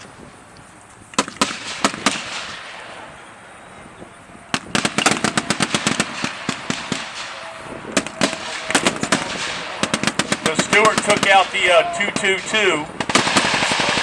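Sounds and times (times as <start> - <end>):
machine gun fire: 1.2 - 3.0, 4.4 - 14.0.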